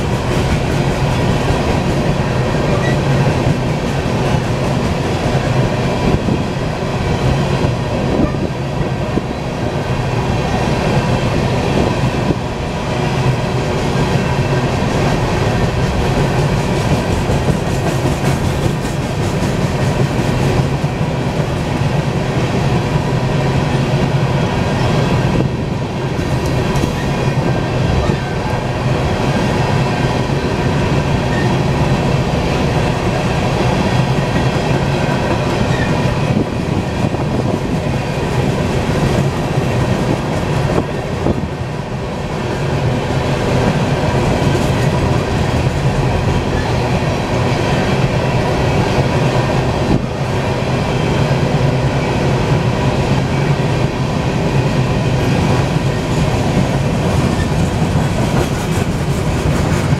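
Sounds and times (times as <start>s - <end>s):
steel wheels running on rails: 0.0s - 59.9s.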